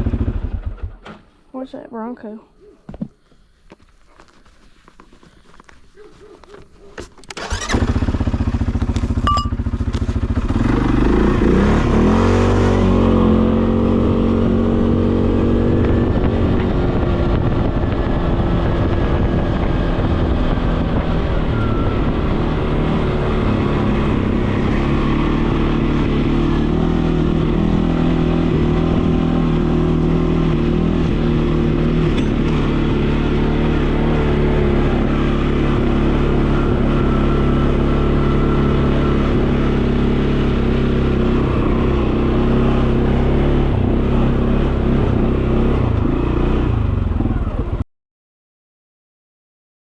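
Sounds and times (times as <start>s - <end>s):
vehicle engine starting and revving: 7.2s - 47.8s.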